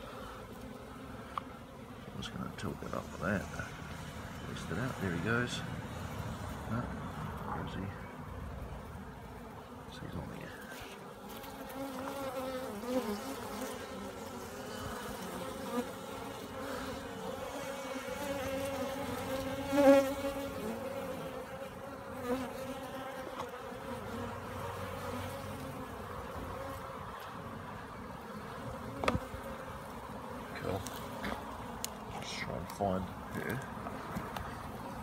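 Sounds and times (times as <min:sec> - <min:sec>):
honeybees humming: 0:00.0 - 0:35.0.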